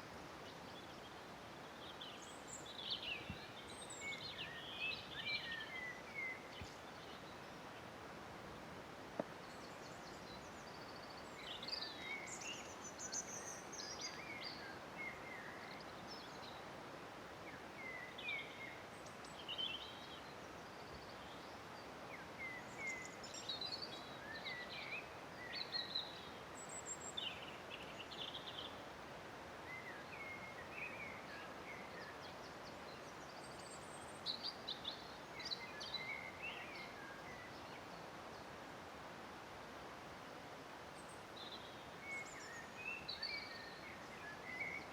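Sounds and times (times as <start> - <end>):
rush of falling water: 0.0 - 44.9.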